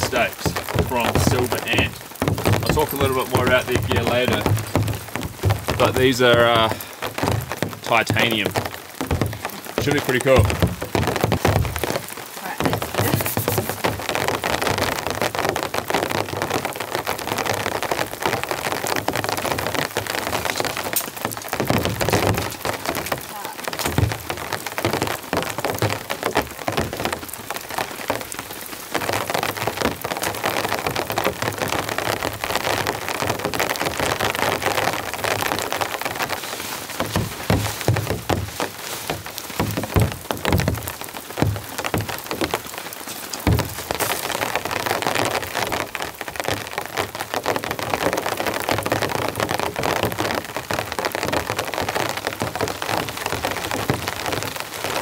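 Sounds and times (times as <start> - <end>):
dull thumps: 0.0 - 16.2, 19.4 - 47.5
heavy rain hissing: 0.0 - 55.0.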